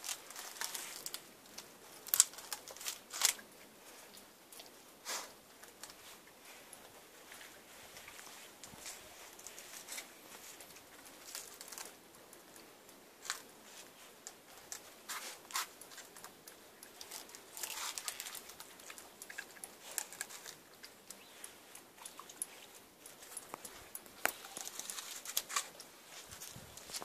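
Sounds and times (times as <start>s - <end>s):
dogs gnawing on a coconut: 0.0s - 27.0s.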